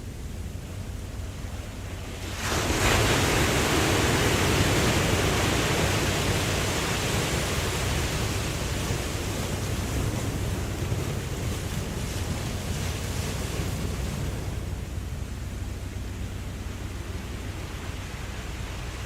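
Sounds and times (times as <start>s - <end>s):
ocean waves rumbling: 0.0s - 19.0s
wave breaking with rushing hiss: 0.0s - 19.0s.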